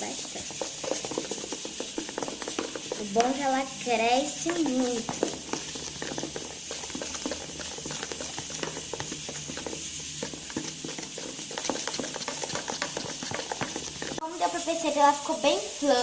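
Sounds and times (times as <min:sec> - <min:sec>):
slime stirred with a spoon: 0:00.0 - 0:16.0.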